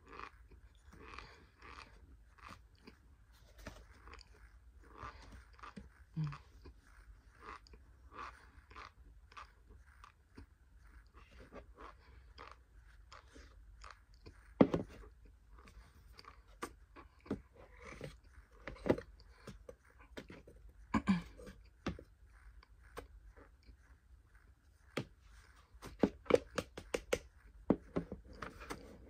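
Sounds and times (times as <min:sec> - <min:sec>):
mouth chewing crunchy powder: 0:00.0 - 0:29.0.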